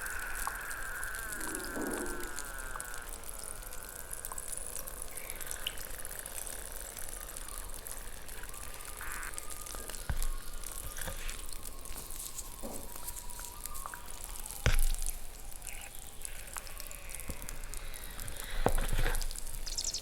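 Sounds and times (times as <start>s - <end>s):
chalk balls fizzing in water: 0.0s - 20.0s.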